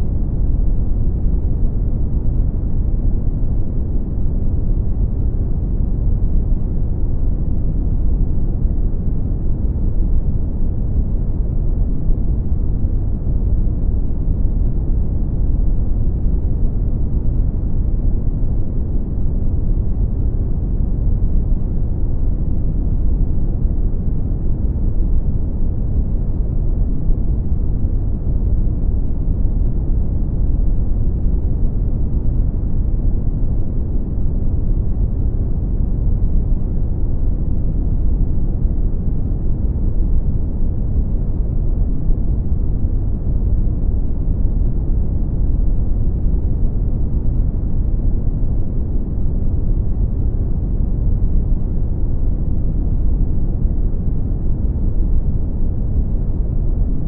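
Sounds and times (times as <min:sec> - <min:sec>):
deep rumbling brown noise: 0:00.0 - 0:57.0.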